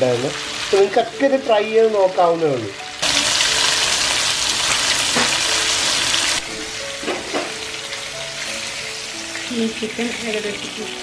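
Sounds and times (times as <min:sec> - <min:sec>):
chicken sizzling in oil: 0:00.0 - 0:11.0
faint background music: 0:00.0 - 0:11.0.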